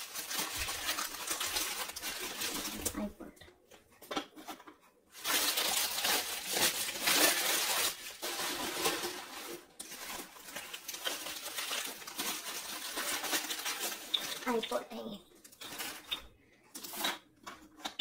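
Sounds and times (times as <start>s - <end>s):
packet rustling and clinking: 0.0s - 3.1s, 4.1s - 14.7s, 15.4s - 18.0s.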